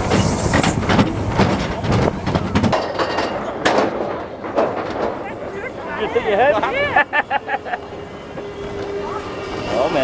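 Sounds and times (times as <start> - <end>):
roller coaster rattling on track: 0.0 - 10.0.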